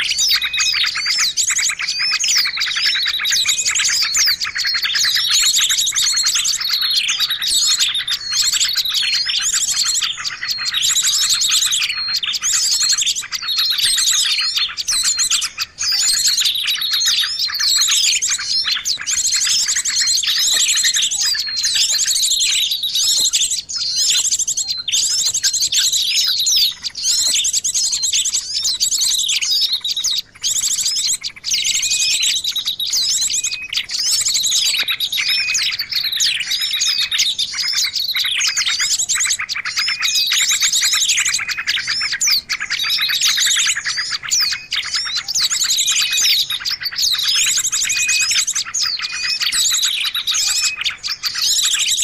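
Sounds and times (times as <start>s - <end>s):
small songbirds chirping: 0.0s - 52.0s.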